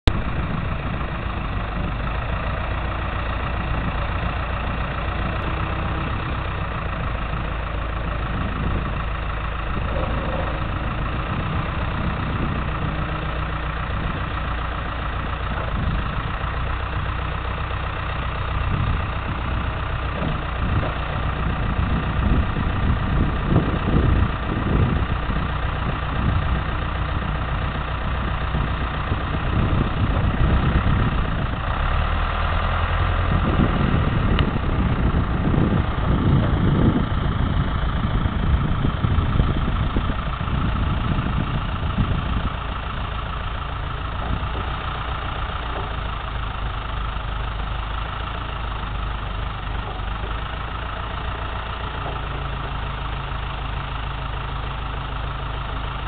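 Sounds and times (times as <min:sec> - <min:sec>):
forklift engine idling: 0:00.0 - 0:56.0
low rumbles: 0:00.0 - 0:56.0.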